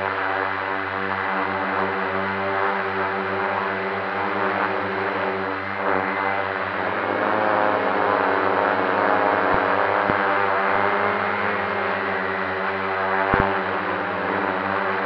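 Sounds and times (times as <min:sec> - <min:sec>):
drone propellers buzzing: 0:00.2 - 0:15.0.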